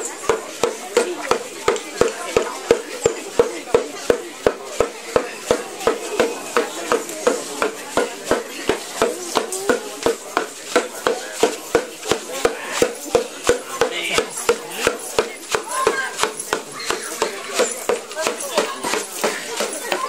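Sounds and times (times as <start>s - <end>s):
drum beaten in steady rhythm: 0.0s - 20.0s
voices: 0.0s - 20.0s.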